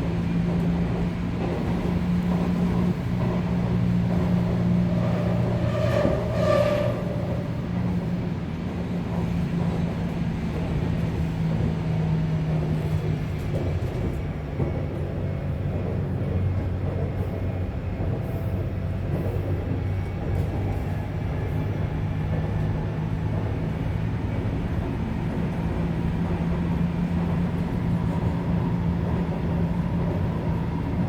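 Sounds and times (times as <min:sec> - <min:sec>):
rail and wheel noise: 0:00.0 - 0:31.0
subway train motor hum: 0:00.0 - 0:31.0.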